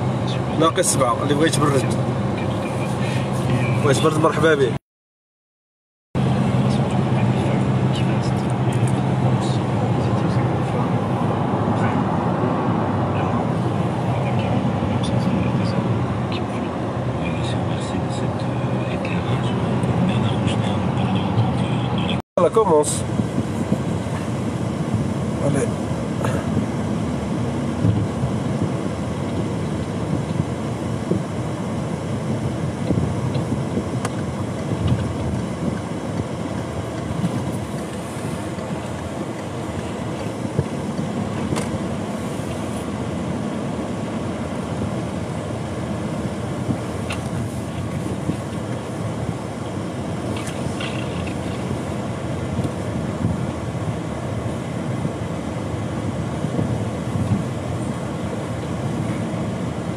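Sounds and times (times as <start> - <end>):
car engine and road noise: 0.0 - 4.8, 6.2 - 59.9.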